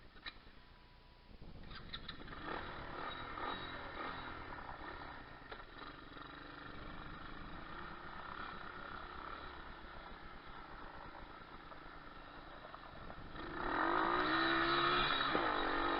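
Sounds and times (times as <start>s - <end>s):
motorcycle engine running: 1.4s - 15.9s.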